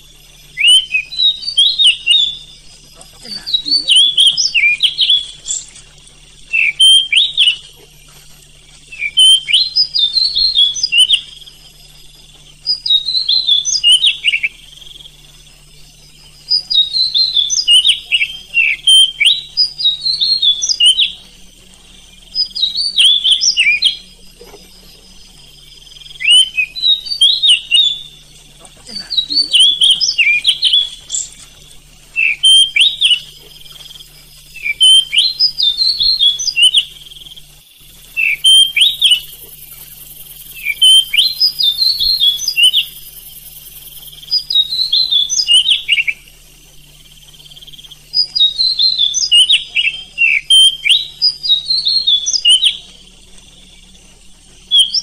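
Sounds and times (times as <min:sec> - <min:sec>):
bird singing whistled notes: 0:00.0 - 0:07.7, 0:08.8 - 0:55.0.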